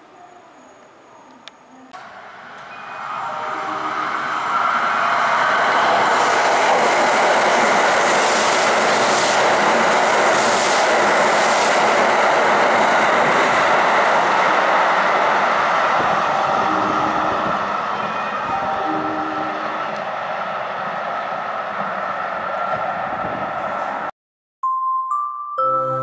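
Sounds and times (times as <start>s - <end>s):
train rushing past: 2.0s - 24.1s.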